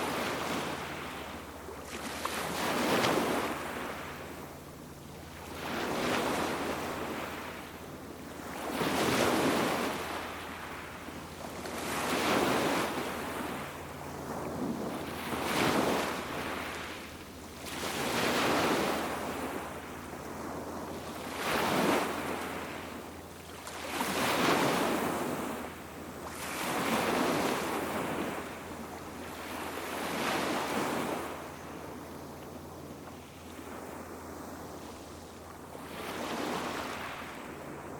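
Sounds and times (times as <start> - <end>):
sea waves breaking on beach: 0.0 - 32.1, 32.7 - 37.9.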